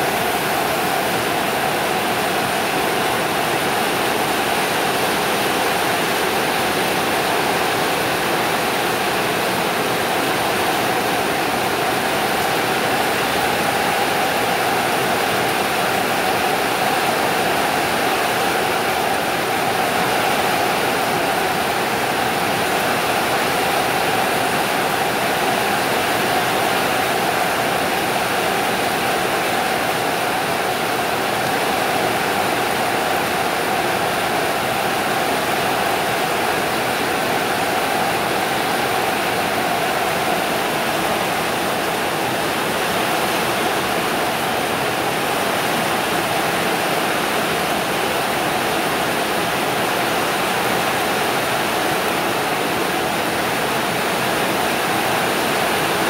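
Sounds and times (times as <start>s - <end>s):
heavy rain on metal roofs: 0.0s - 56.0s.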